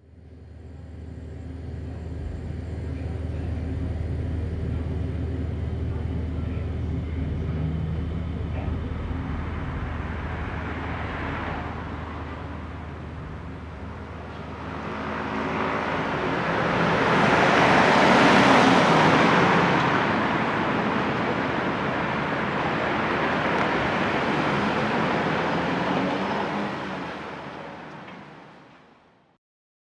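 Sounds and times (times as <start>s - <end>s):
steady low hum: 0.0s - 28.5s
car passing outside: 0.0s - 29.3s.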